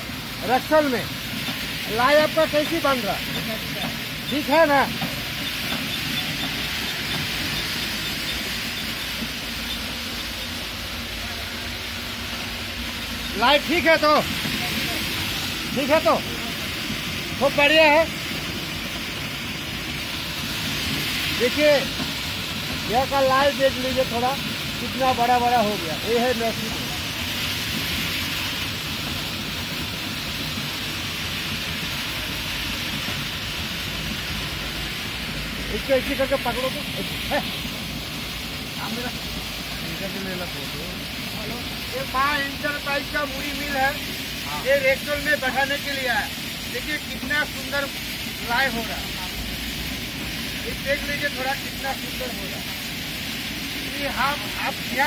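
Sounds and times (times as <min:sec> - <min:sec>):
machine rumbling: 0:00.0 - 0:52.8
even hiss: 0:00.0 - 0:55.0
puffed rice pouring down metal chute: 0:00.0 - 0:55.0.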